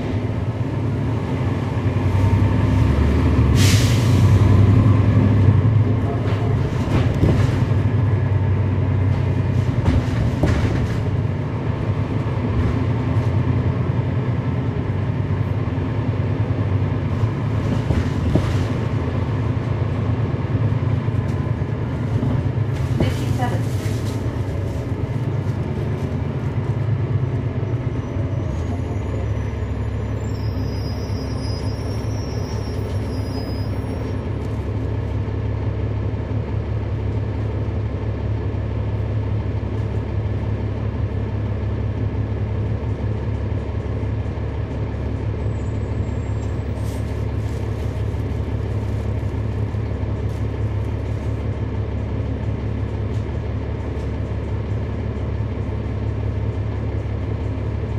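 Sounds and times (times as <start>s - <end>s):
bus engine deep drone: 0.0s - 57.9s.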